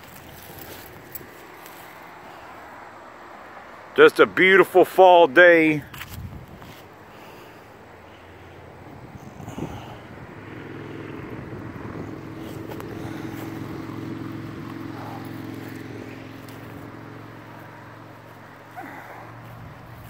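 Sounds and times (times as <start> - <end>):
passing engine hum: 0.0 - 20.0.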